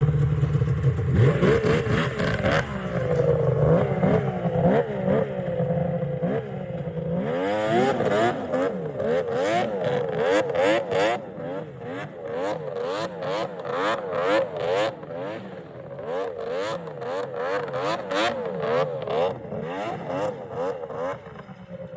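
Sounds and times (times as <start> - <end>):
snowmobile engine revving: 0.0 - 21.8.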